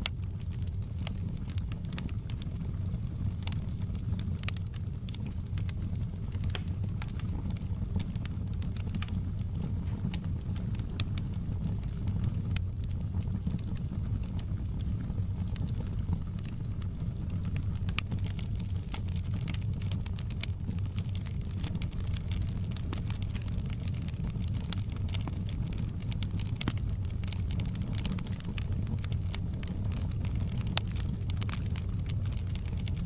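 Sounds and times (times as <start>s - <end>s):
low rumble of flames: 0.0s - 33.0s
wood fire crackling: 0.0s - 33.0s.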